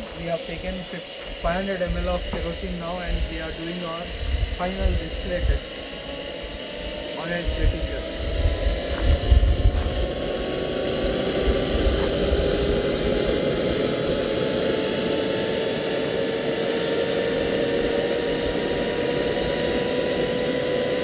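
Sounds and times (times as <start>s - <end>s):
jet engine roaring with whine: 0.0s - 21.0s.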